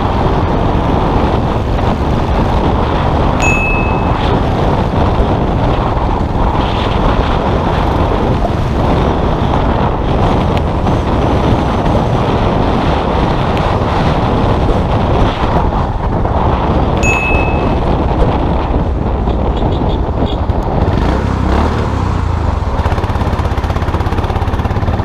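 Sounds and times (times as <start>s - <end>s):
motorcycle engine running: 0.0s - 15.1s, 16.3s - 25.0s
wind noise on microphone: 0.0s - 25.0s.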